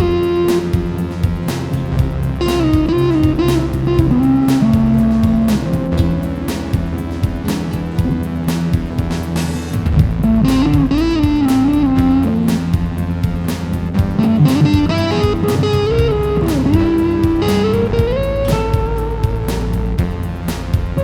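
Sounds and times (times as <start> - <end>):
electric guitar lead: 0.0 - 9.4, 10.1 - 21.0
bass and drums: 0.0 - 21.0.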